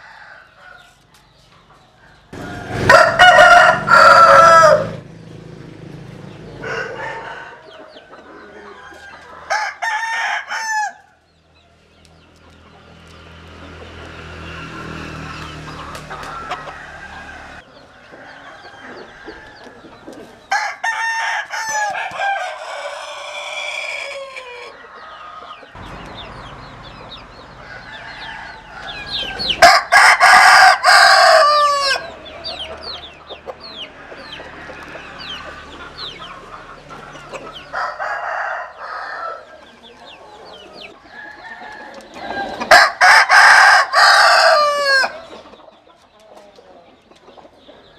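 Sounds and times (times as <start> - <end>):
roosters crowing: 0.0 - 11.6, 12.6 - 45.9.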